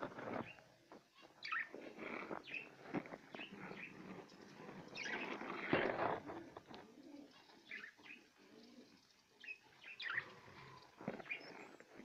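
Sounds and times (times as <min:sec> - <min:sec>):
cage birds chirping: 0:00.3 - 0:12.0.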